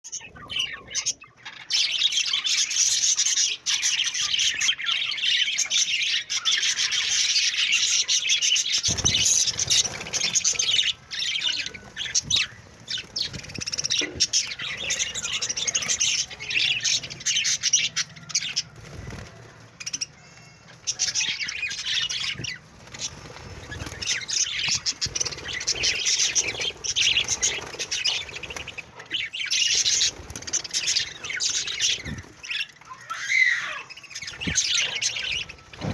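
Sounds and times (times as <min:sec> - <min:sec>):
budgerigars chirping and warbling: 0:00.0 - 0:35.9.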